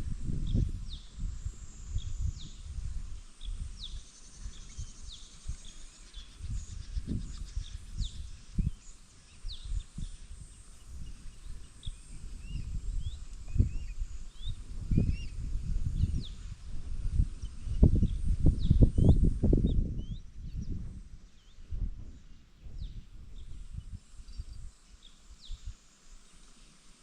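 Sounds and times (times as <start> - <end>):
small birds chirping: 0.4 - 26.6.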